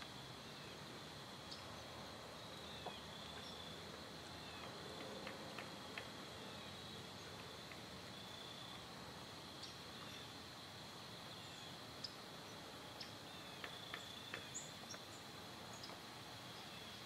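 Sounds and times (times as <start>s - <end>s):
light hiss: 0.0s - 17.0s.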